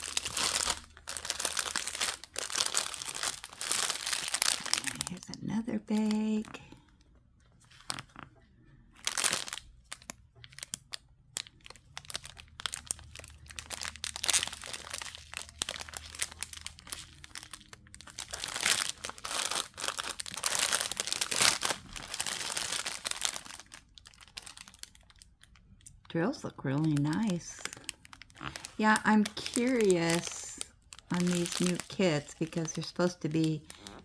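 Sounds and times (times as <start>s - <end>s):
plastic bags crinkling: 0.0s - 7.0s, 7.6s - 8.3s, 9.0s - 34.0s.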